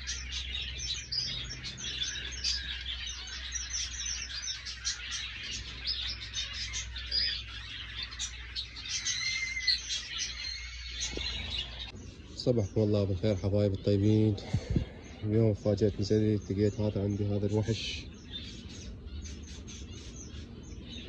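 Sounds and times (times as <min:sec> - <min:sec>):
finches chirping: 0:00.0 - 0:21.0.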